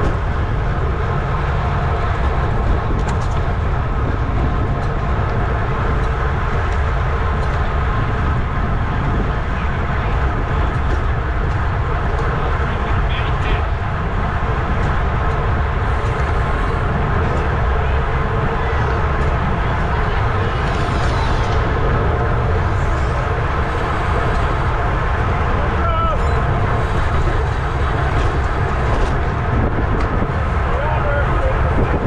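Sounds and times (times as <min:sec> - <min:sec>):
road and drivetrain noise: 0:00.0 - 0:32.0
wind rushing over microphone: 0:00.0 - 0:32.0.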